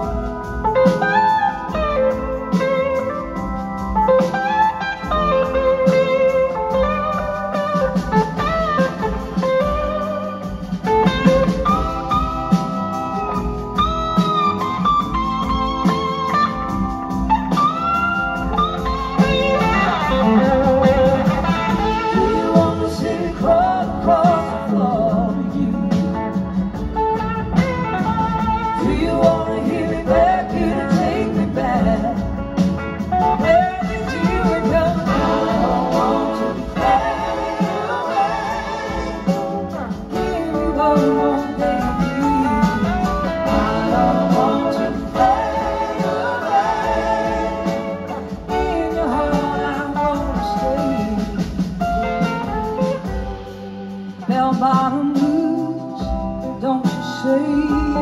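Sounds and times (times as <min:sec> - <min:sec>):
live blues-rock band: 0:00.0 - 0:58.0
slide guitar: 0:00.0 - 0:58.0.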